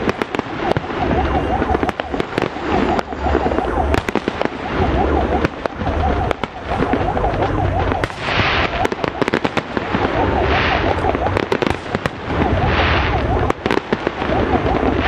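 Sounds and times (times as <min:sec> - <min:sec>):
fireworks bangs and crackles: 0:00.0 - 0:15.0
hissing crackle: 0:00.0 - 0:15.0.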